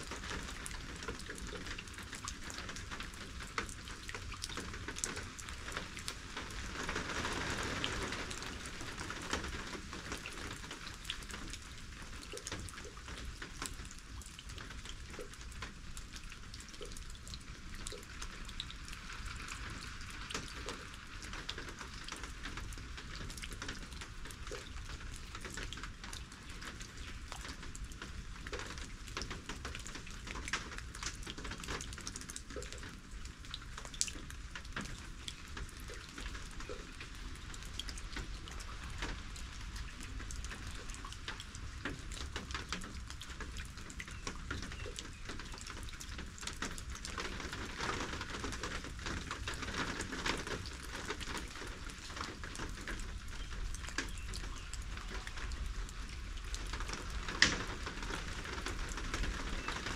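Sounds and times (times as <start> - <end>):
raindrops ticking on surfaces: 0.0 - 59.9
steady rain: 0.0 - 59.9.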